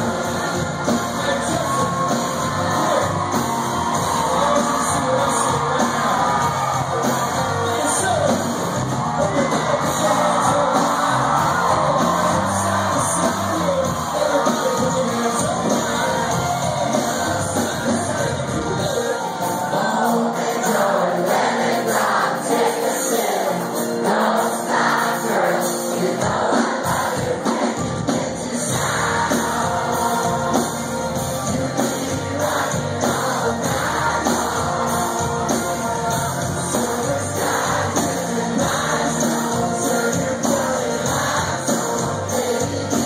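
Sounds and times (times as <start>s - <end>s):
crowd cheering and whooping: 0.0s - 20.7s, 26.1s - 43.0s
country rock band playing live: 0.0s - 43.0s
crowd singing along: 0.0s - 43.0s.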